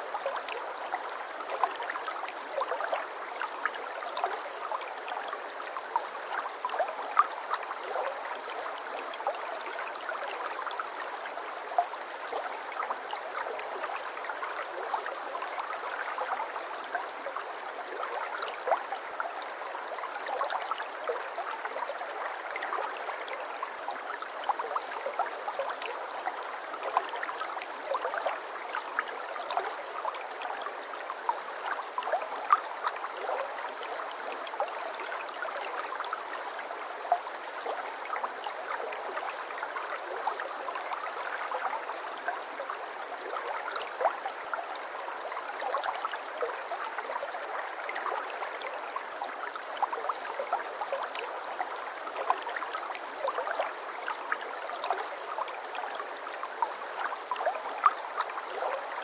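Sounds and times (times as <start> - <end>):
brook babbling: 0.0 - 59.0.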